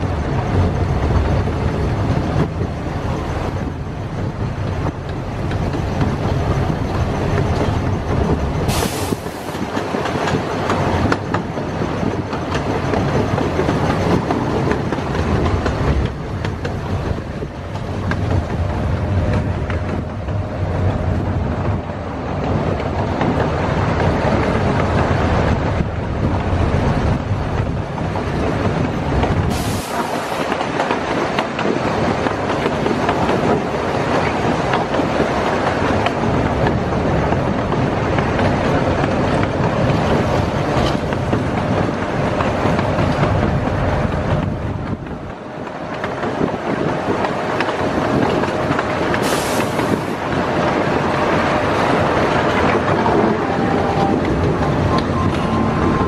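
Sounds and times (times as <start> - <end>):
miniature train rumbling on track: 0.0 - 56.0.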